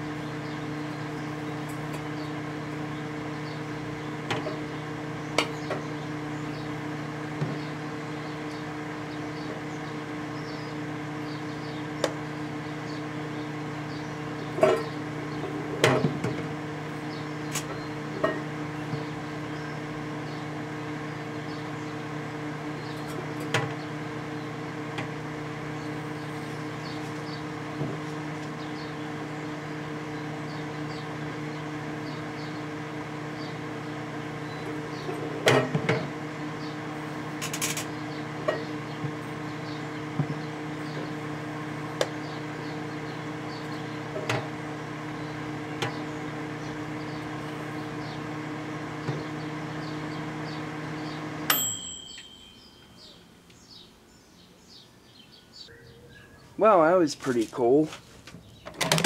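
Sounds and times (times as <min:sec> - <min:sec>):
microwave oven humming: 0:00.0 - 0:57.1, 0:58.3 - 0:59.0.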